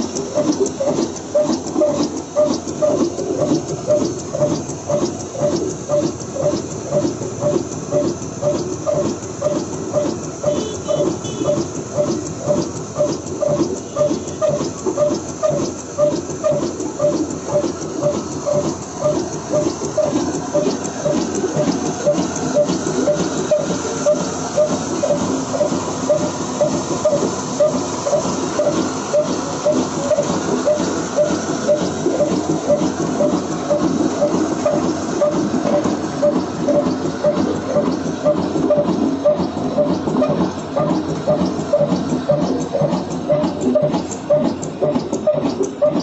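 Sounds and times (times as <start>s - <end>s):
diesel engine chugging: 0.0s - 46.0s.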